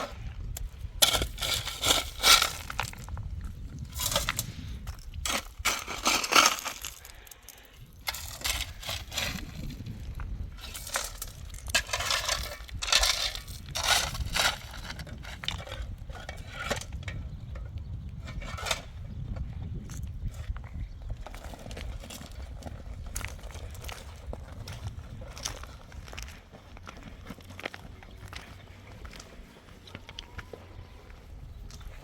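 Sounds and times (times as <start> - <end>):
crunching and scraping: 0.0 - 32.0.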